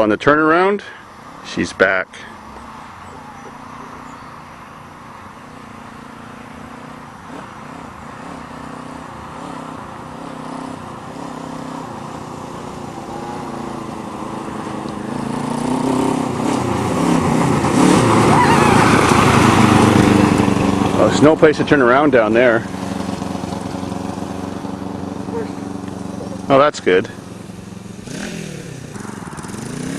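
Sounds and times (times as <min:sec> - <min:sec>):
go-kart engine revving: 0:00.0 - 0:29.9.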